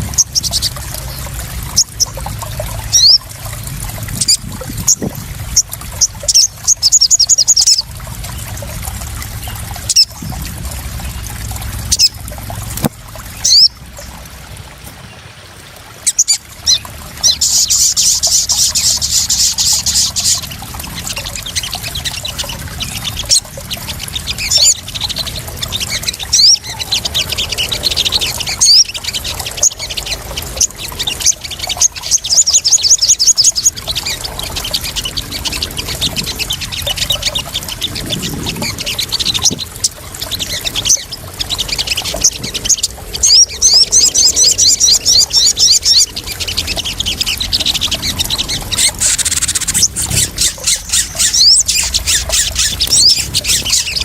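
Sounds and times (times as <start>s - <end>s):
splashing trickling water: 0.0s - 54.0s
songbird chirping and trilling: 0.1s - 3.6s, 4.2s - 8.8s, 12.8s - 14.2s, 16.0s - 54.0s.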